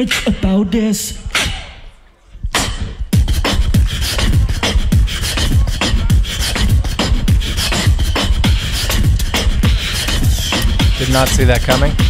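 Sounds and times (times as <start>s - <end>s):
looped beatbox beat: 0.0s - 12.0s.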